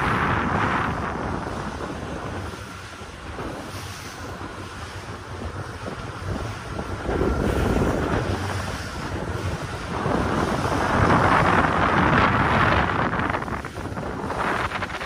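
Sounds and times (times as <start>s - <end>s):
low motorboat rumble: 0.0s - 15.0s
water rushing along hull: 0.0s - 15.0s
wind buffeting microphone: 0.0s - 15.0s.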